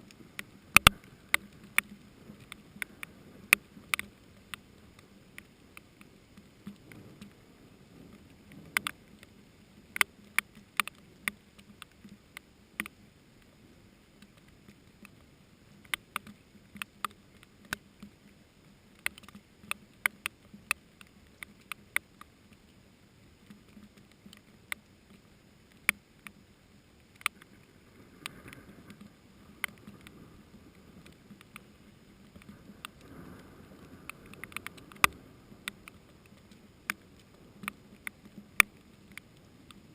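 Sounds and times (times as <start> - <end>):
faint hiss of rain: 0.0 - 39.9
raindrops ticking: 0.0 - 39.9.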